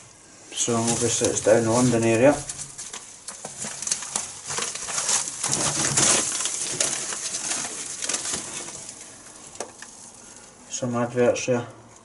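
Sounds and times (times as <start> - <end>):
paper pages crackling and rustling: 0.6 - 10.4.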